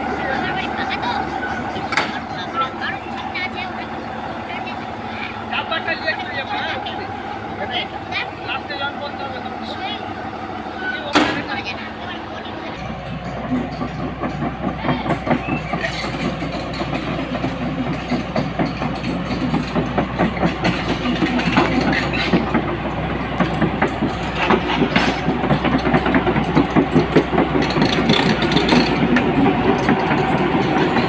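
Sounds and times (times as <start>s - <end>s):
diesel engine chugging: 0.0s - 31.0s.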